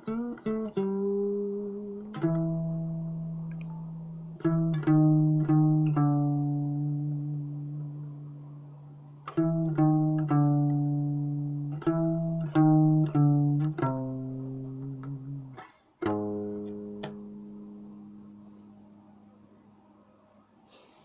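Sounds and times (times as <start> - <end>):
guitar playing slow blues: 0.0 - 18.9.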